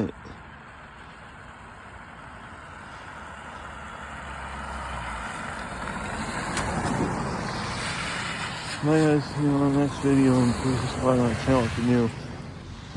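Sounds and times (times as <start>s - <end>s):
road noise: 0.0s - 12.9s.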